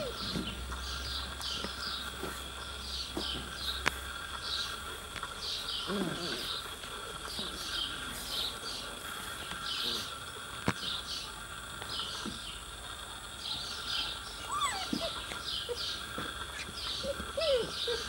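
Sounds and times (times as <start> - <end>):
birds chirping: 0.0 - 18.0
insect drone: 0.0 - 18.0.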